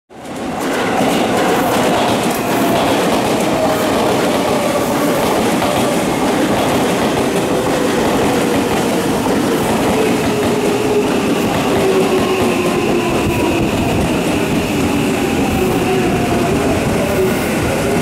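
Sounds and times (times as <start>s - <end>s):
train wheel-on-rail rumble: 0.1s - 18.0s.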